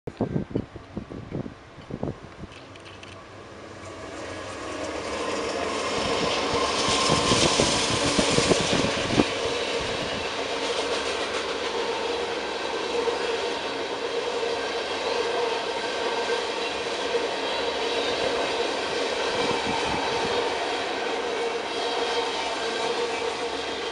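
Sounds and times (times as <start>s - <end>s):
freight train rumbling past: 0.1s - 23.9s
train wheel clacks: 1.8s - 23.9s.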